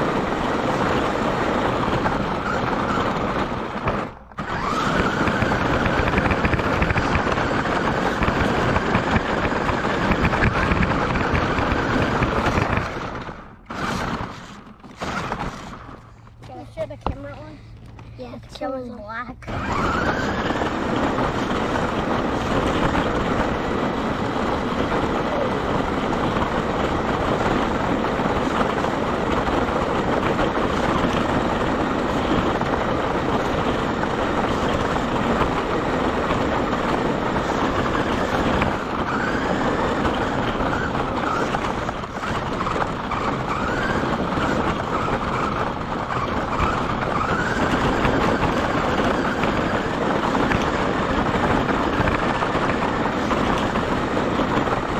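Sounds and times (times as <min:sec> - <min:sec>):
motor whine: 0:00.0 - 0:16.5, 0:19.5 - 0:54.9
tyre and drivetrain rush: 0:00.0 - 0:54.9.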